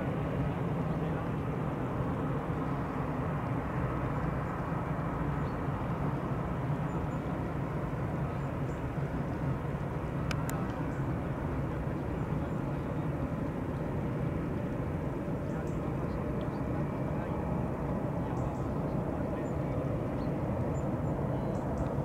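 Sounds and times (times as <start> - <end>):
distant jet engines humming: 0.0 - 22.0.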